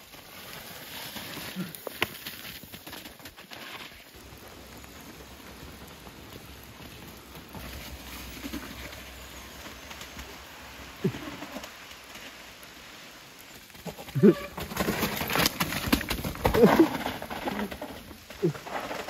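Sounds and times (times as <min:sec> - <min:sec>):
bike tyres and wind rushing: 0:00.0 - 0:19.0.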